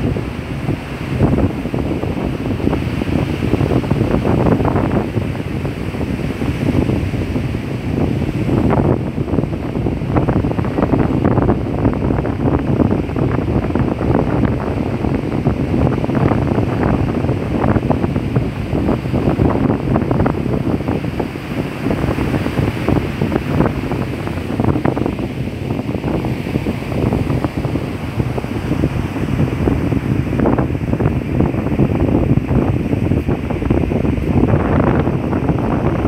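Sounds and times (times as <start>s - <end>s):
surf breaking on beach: 0.0s - 36.0s
wind buffeting microphone: 0.0s - 36.0s.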